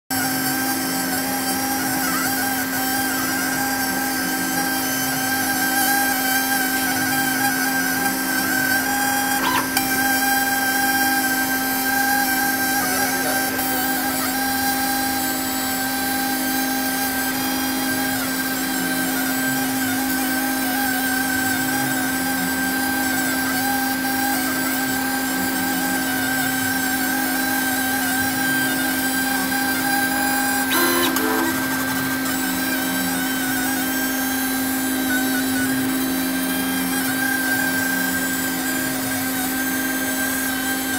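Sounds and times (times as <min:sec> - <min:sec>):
laser cutting machine drone: 0:00.1 - 0:40.9.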